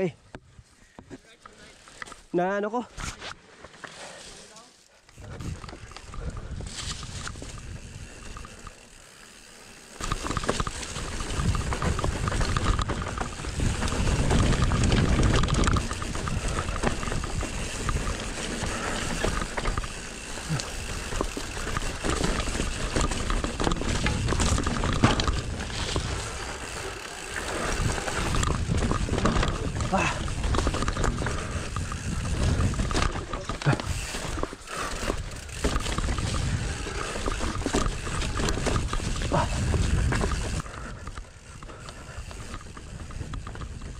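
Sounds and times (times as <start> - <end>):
mountain bike ride noise: 0.0 - 43.9.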